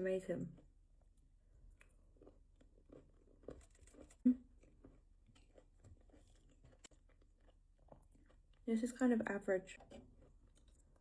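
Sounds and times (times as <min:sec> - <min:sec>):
chewing chocolate: 0:00.5 - 0:11.0.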